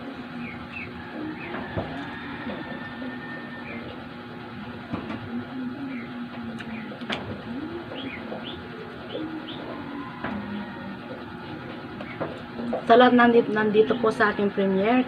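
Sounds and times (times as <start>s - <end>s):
low wavering hum: 0.0s - 15.0s.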